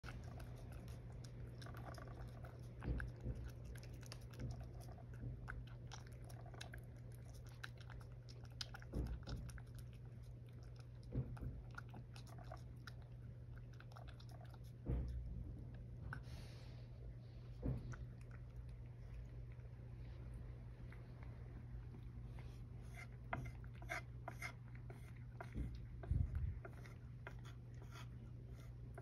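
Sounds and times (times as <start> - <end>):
cat chewing wet food: 0.0 - 29.0
steady low hum: 0.0 - 29.0.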